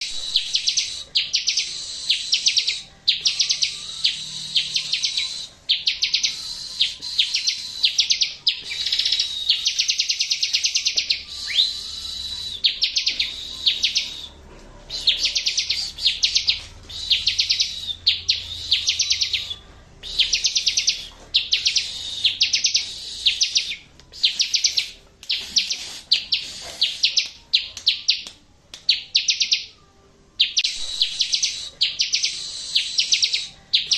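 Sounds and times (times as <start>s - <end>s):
bird singing fast trills: 0.0s - 28.3s, 28.9s - 29.7s, 30.4s - 33.9s.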